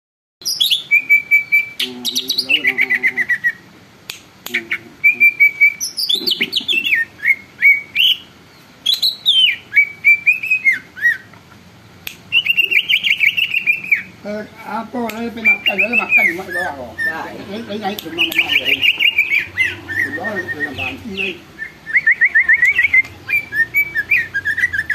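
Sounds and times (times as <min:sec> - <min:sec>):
bird singing chirps and whistles: 0:00.4 - 0:03.6, 0:04.5 - 0:11.4, 0:12.3 - 0:14.2, 0:15.2 - 0:24.9.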